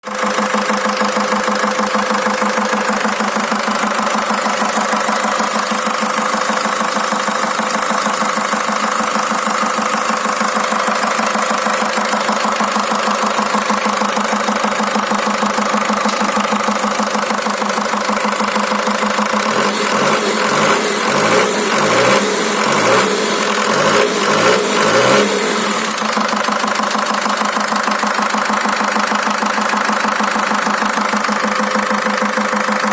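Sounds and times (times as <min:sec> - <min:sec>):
diesel engine idling with knock: 0:00.0 - 0:32.9.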